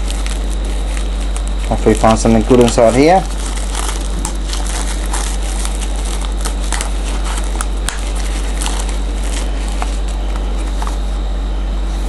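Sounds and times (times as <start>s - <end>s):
plastic wrapping crinkling: 0.0s - 11.2s
low electrical hum: 0.0s - 12.0s.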